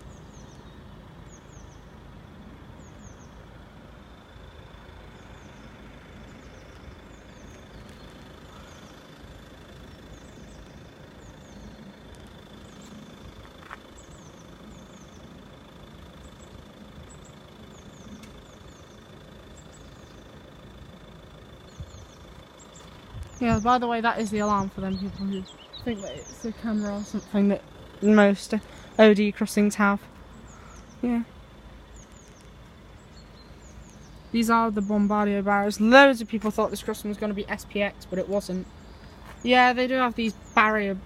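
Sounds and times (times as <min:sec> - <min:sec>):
birds chirping: 0:00.0 - 0:41.0
low steady rumble: 0:00.0 - 0:41.0.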